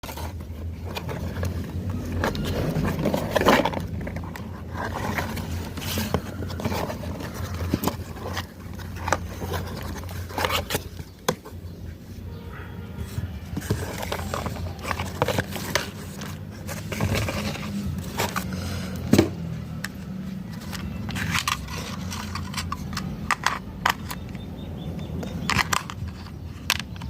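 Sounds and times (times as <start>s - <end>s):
scraping and knocking of objects: 0.0s - 12.3s, 13.0s - 27.0s.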